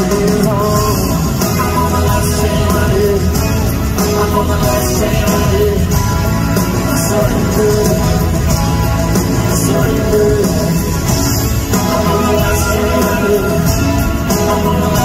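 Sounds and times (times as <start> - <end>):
electric guitar: 0.0 - 15.0
live pop-rock band: 0.0 - 15.0
man singing lead vocal: 0.0 - 15.0.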